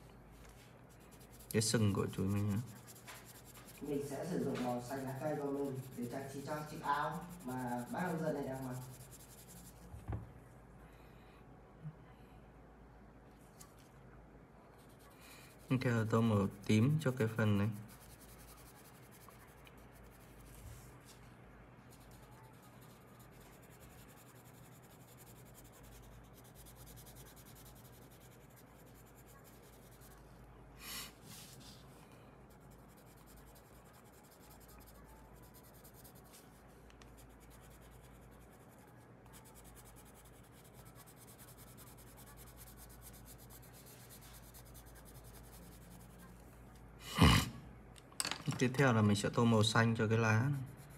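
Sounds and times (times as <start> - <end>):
colored pencil scratching on paper: 0.0 - 9.9, 14.7 - 21.3, 21.9 - 30.4, 31.0 - 46.5, 49.2 - 50.9.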